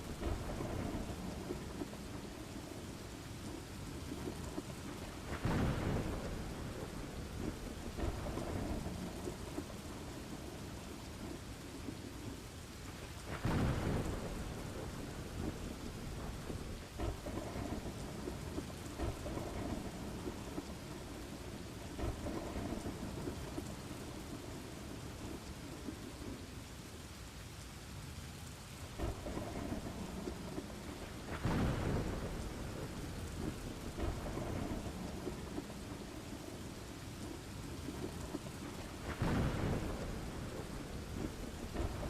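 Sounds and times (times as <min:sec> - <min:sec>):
thunder rumbling: 0:00.0 - 0:12.3, 0:12.9 - 0:26.4, 0:28.9 - 0:42.0
steady rain falling: 0:00.0 - 0:42.0.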